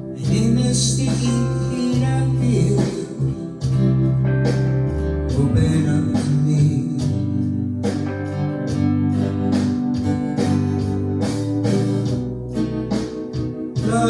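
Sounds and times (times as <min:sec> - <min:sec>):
slow blues guitar strumming: 0:00.0 - 0:14.0
sustained bass notes: 0:00.0 - 0:14.0.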